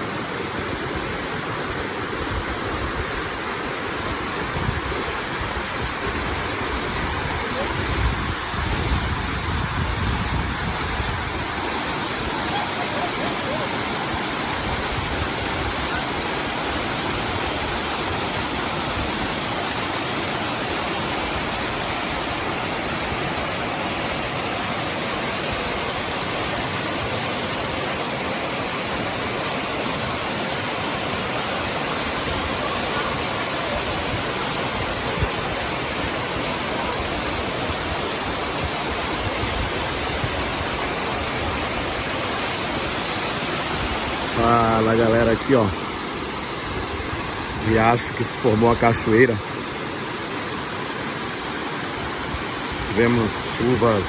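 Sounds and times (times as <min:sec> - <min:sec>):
waterfall rushing over rock: 0:00.0 - 0:54.0.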